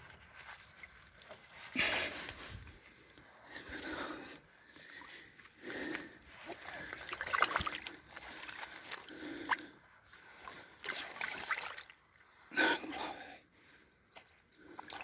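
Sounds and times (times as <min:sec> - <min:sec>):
water splashing and sloshing: 0:00.0 - 0:04.0, 0:04.6 - 0:12.4, 0:14.6 - 0:15.0.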